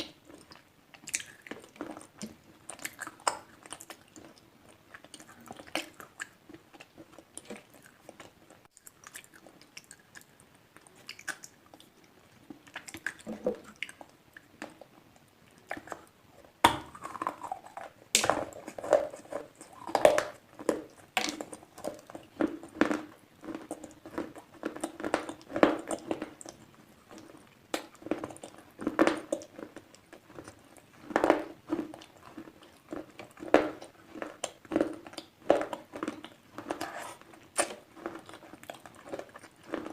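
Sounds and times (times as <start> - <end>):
slate pencils being chewed: 0.0 - 39.9.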